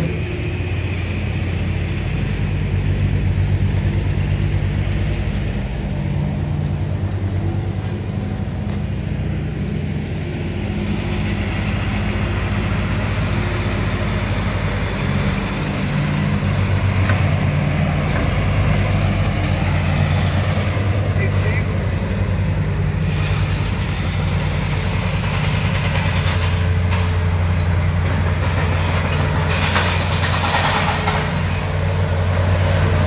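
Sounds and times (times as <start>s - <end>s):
large engine humming: 0.0s - 33.0s.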